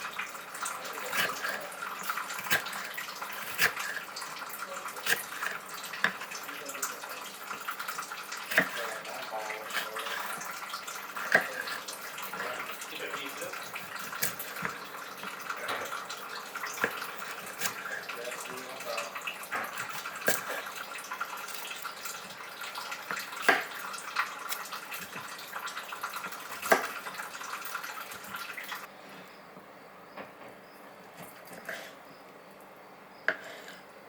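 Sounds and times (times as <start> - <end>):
tap water running into sink: 0.0 - 28.9.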